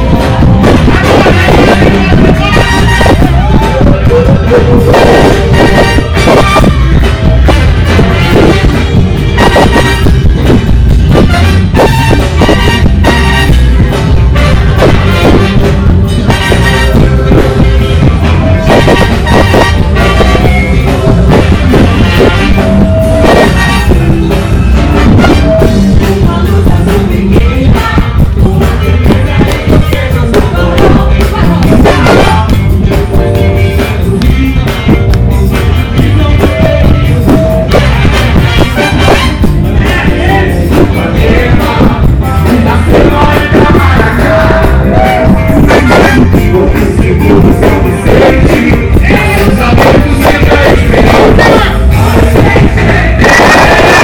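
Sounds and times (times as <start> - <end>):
live funk band playing: 0.0 - 54.0.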